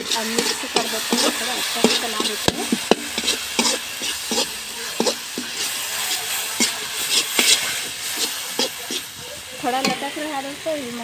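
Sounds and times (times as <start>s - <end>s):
metal spatula scraping a pan: 0.0s - 10.5s
sauce sizzling in hot oil: 0.0s - 11.0s.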